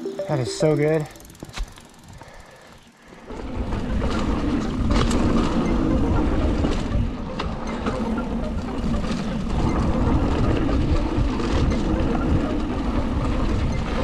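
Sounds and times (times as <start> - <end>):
wind: 0.0 - 14.0
bike rattles and knocks: 1.2 - 14.0
bike tyre rumble on dirt: 1.2 - 14.0.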